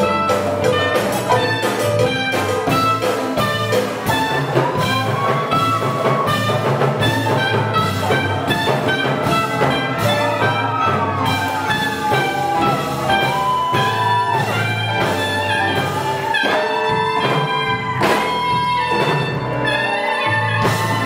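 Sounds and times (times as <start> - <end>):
drum kit: 0.0 - 21.0
latin big band jazz: 0.0 - 21.0
percussive beat: 0.0 - 21.0
upright bass: 0.0 - 21.0.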